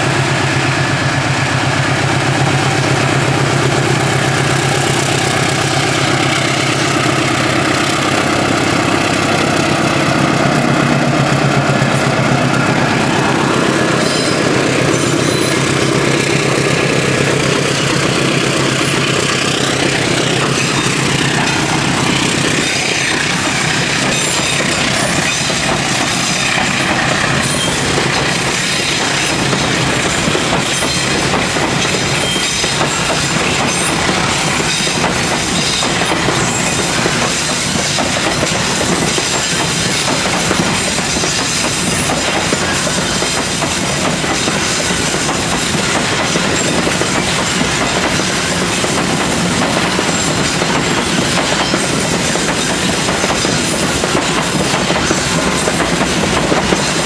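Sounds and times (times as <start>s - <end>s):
train wheels rushing on rail: 0.0s - 57.0s
wheels clattering over rail joints: 4.1s - 57.0s.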